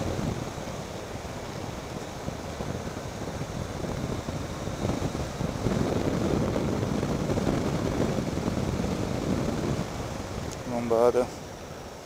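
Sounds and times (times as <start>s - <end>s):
motorcycle engine and tyre noise: 0.0s - 12.0s
wind rushing over microphone: 0.0s - 12.0s.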